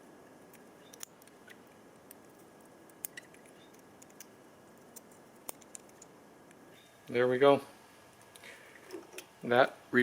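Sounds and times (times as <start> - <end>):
low steady hiss: 0.0 - 10.0.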